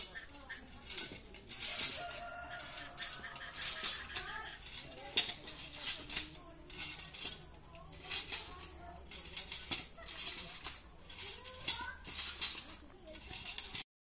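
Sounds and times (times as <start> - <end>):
metal climbing device clanking: 0.0 - 13.9.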